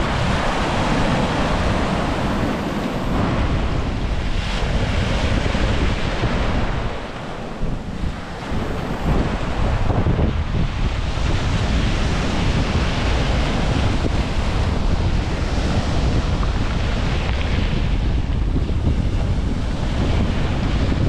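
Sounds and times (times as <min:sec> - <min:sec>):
waves washing over pebble beach: 0:00.0 - 0:21.0
wind buffeting microphone: 0:00.0 - 0:21.0.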